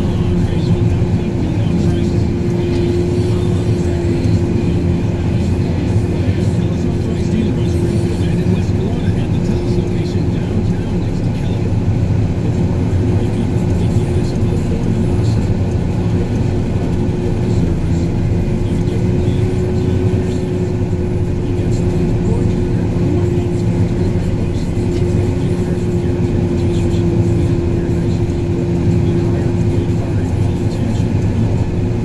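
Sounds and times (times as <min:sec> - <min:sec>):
snow groomer engine drone: 0:00.0 - 0:32.0
thin steady whine: 0:00.0 - 0:32.0.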